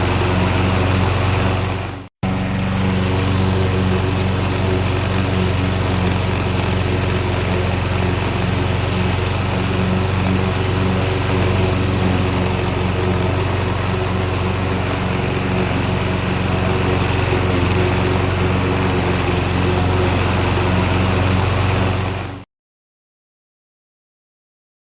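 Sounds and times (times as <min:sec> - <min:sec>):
lawnmower engine running: 0:00.0 - 0:22.4.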